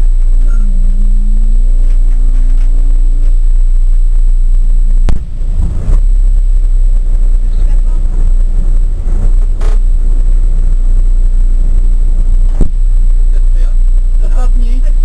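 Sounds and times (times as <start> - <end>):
car engine from inside cabin: 0.0 - 15.0
rough low engine rumble: 0.0 - 15.0.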